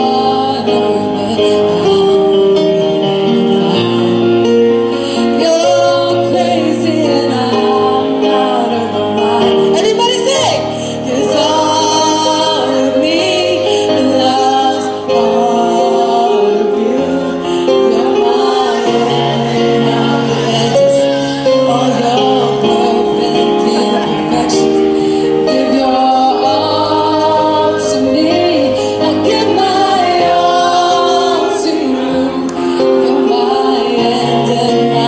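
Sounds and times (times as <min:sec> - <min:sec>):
instrumental backing track: 0:00.0 - 0:35.0
woman singing into microphone: 0:00.0 - 0:35.0.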